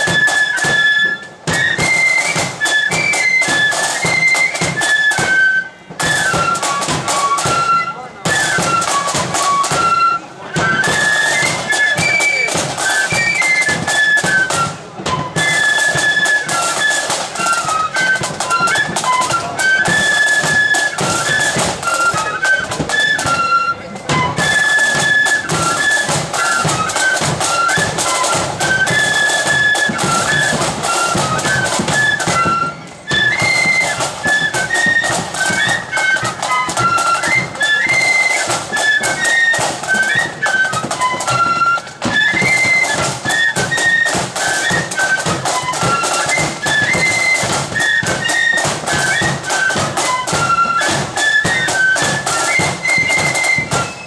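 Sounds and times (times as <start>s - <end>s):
drums beating: 0.0s - 54.0s
flute band playing: 0.0s - 54.0s.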